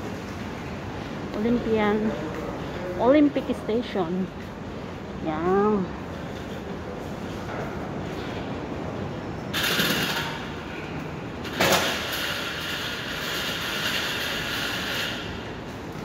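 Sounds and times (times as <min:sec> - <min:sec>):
rushing city noise: 0:00.0 - 0:16.0.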